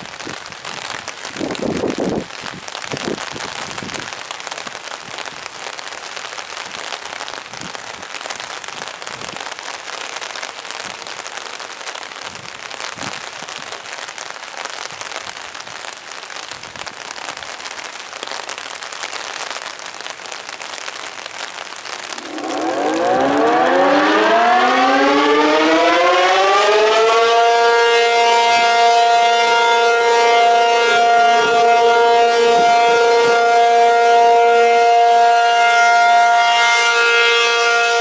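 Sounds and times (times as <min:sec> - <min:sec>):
rain falling: 0:00.0 - 0:34.6.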